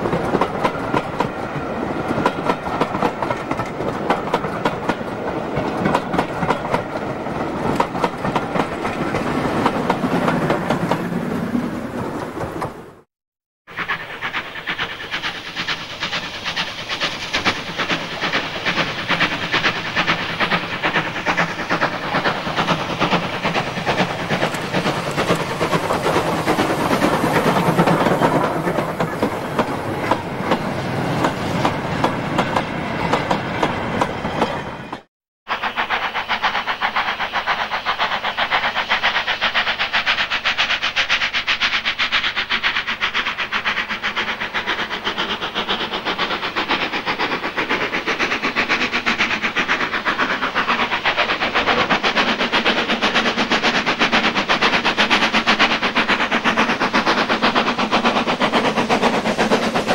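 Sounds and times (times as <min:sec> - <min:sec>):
steam locomotive exhaust beat: 0:00.0 - 0:13.1, 0:13.7 - 0:59.9
train rolling by: 0:00.0 - 0:13.1, 0:13.7 - 0:59.9.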